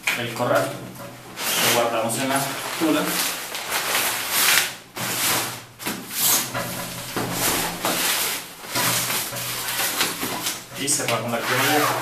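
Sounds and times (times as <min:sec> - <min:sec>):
nylon bag rustling: 0:01.4 - 0:12.0.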